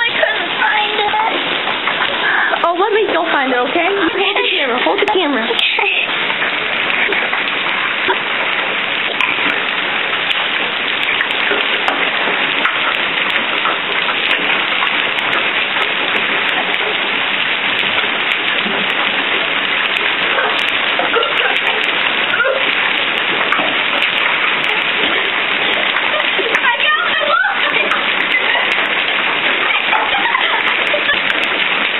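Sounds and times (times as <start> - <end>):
hail hitting the ground: 0.0 - 31.9.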